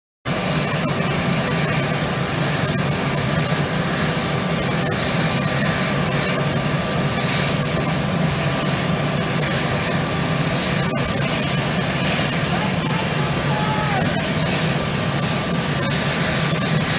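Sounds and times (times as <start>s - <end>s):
aircraft turbine engines running: 0.3s - 16.9s.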